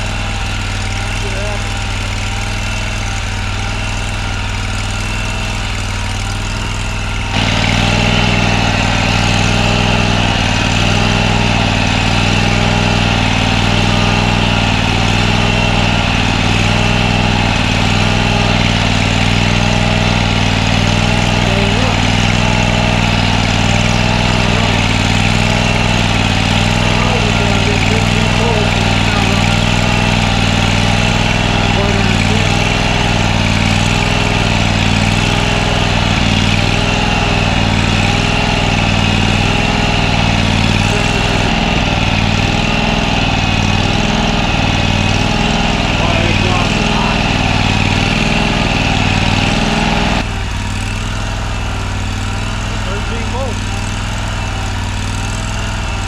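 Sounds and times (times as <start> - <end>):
mower engine idling: 0.0 - 56.0.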